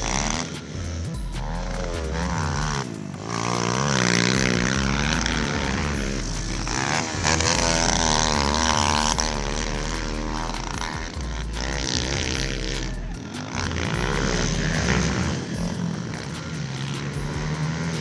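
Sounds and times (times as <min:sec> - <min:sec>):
pit bike engines revving: 0:00.0 - 0:18.0.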